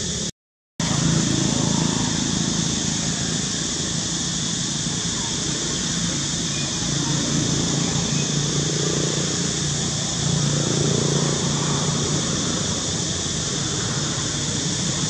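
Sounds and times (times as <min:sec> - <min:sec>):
high hiss: 0:00.0 - 0:15.0
low motor drone: 0:00.0 - 0:15.0.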